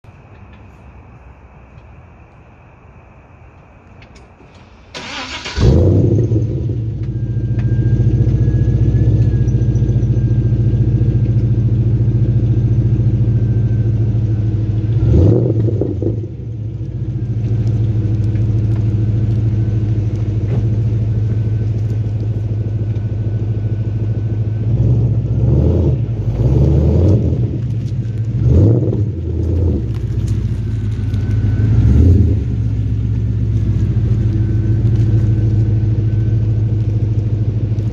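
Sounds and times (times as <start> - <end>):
car engine idling with throttle blips: 4.6 - 37.9.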